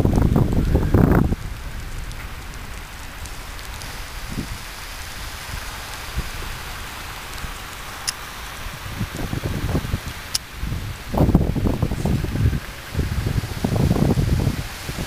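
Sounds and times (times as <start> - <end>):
steady rain hiss: 0.0 - 15.0
wind bumps on microphone: 0.0 - 15.0.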